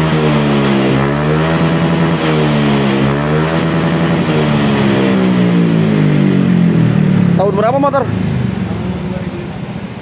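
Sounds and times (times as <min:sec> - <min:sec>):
scooter engine revving: 0:00.0 - 0:10.0.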